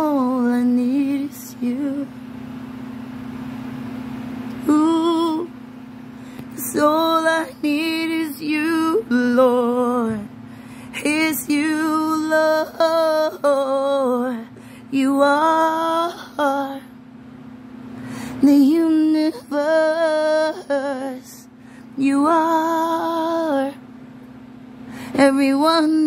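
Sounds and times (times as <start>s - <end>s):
woman singing a worship song: 0.0s - 2.4s, 4.5s - 17.0s, 18.0s - 23.9s, 24.9s - 26.0s
steady low hum: 0.0s - 26.0s.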